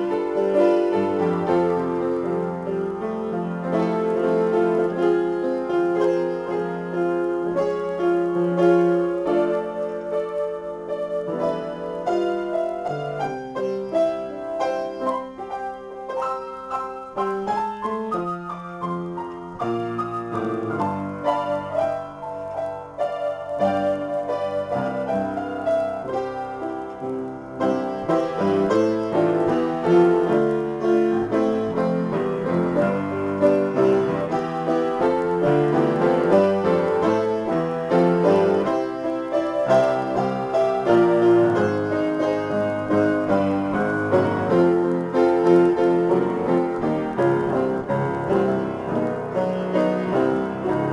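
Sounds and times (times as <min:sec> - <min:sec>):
upright piano improvisation: 0:00.0 - 0:50.9.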